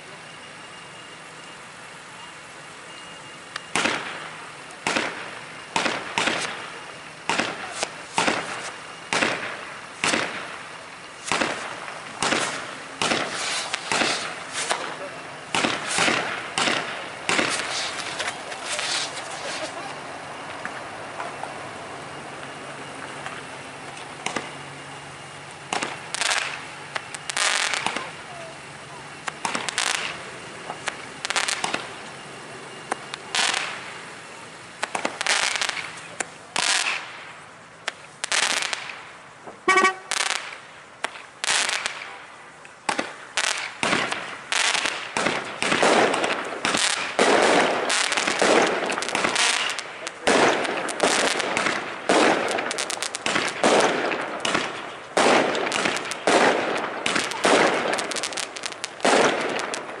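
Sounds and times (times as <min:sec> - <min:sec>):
fireworks bursting with bangs: 0:00.0 - 1:00.0.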